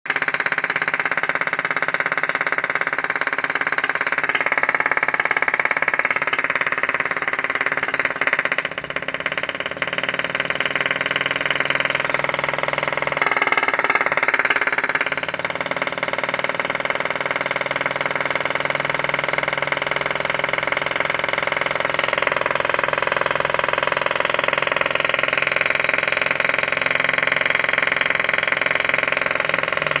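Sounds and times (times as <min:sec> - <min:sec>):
model engine ticking: 0:00.1 - 0:30.0.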